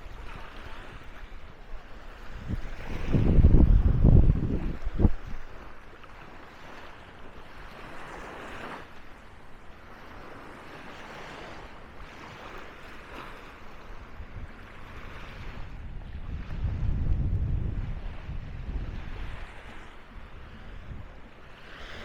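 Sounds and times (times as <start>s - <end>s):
waves washing onto a beach: 0.0s - 22.0s.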